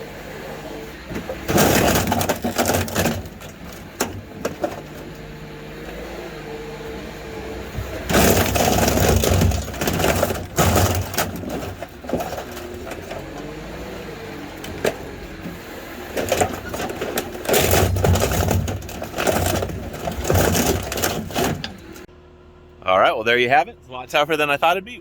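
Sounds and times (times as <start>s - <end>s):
sheet metal crunching and scraping: 0.0s - 22.1s
loader engine running: 0.0s - 25.0s.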